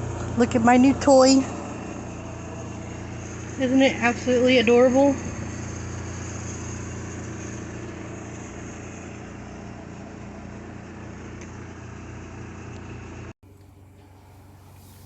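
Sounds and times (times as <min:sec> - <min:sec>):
washing machine hiss: 0:00.0 - 0:12.3, 0:13.5 - 0:15.0
washing machine motor hum: 0:00.0 - 0:15.0.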